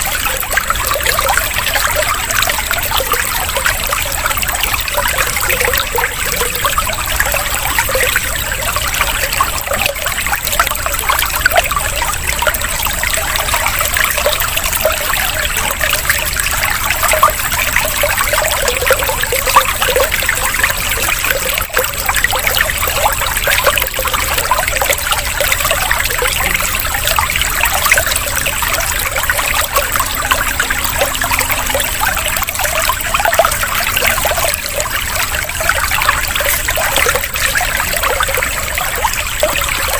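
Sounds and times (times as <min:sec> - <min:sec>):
water trickling and burbling: 0:00.0 - 0:39.9.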